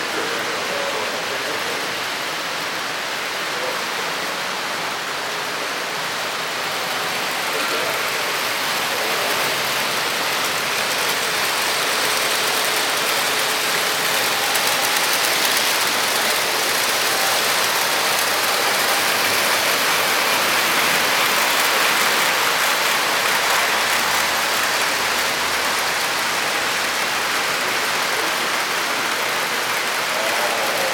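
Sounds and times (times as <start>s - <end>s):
model trains running on track: 0.0s - 30.9s.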